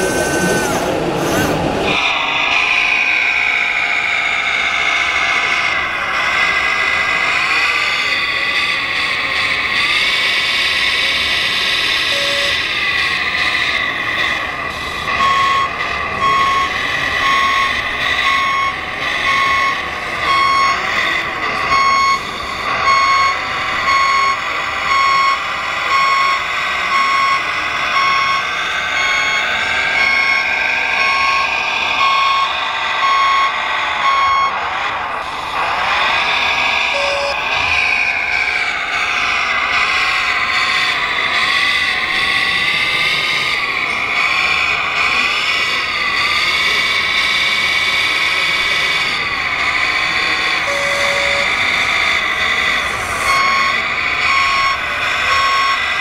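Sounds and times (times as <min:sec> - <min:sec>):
model machine motors whining: 0:00.0 - 0:56.0
reversing beeper: 0:00.0 - 0:56.0.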